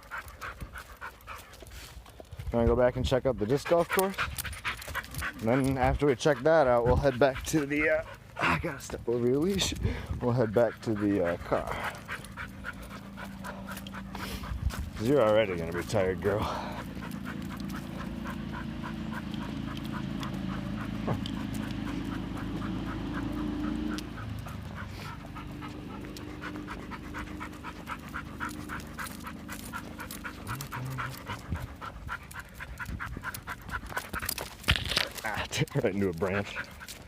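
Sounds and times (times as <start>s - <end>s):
dog panting: 0.0s - 37.0s.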